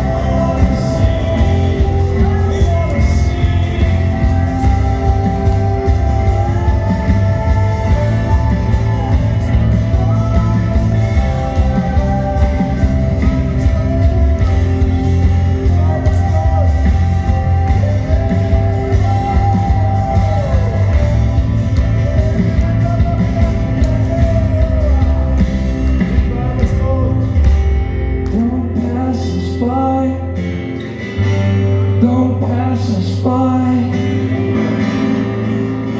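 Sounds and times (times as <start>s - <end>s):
person singing: 0.0s - 35.9s
worship band with guitar and bass: 0.0s - 35.9s.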